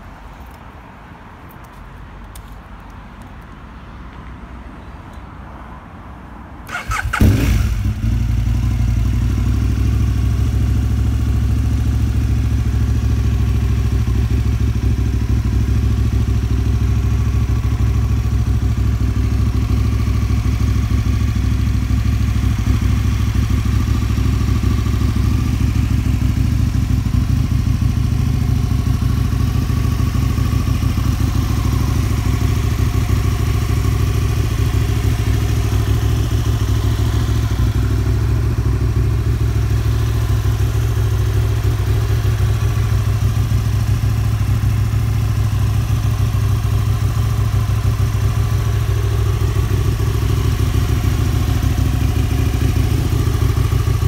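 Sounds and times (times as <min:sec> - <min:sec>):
motorcycle engine starting and idling: 0:06.6 - 0:54.0.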